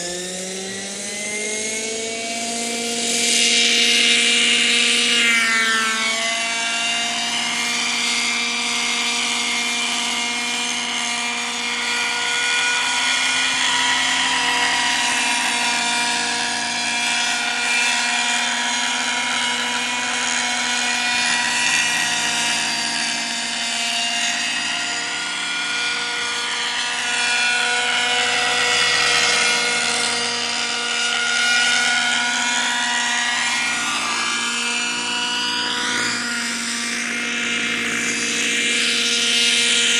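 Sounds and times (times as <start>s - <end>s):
model helicopter engine whine: 0.0s - 39.9s.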